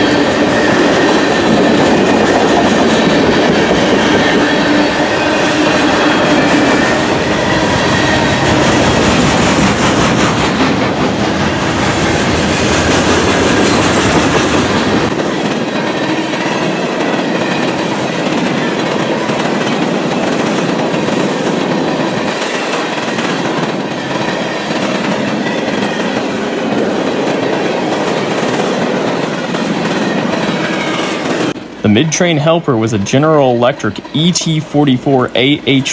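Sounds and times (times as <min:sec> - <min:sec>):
freight train wheels clattering: 0:00.0 - 0:31.8.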